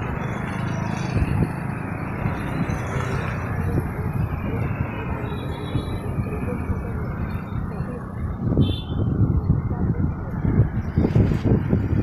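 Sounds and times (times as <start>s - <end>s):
road traffic passing: 0.0s - 12.0s
wind buffeting microphone: 0.0s - 12.0s.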